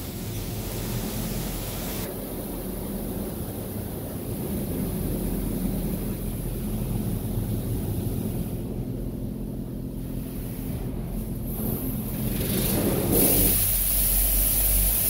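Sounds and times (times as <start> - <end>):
car wash spray hissing: 0.0 - 15.0.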